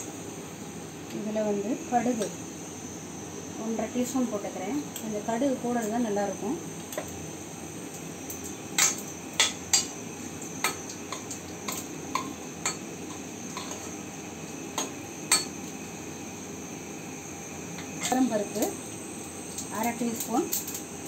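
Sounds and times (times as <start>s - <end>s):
oil sizzling: 0.0s - 21.0s.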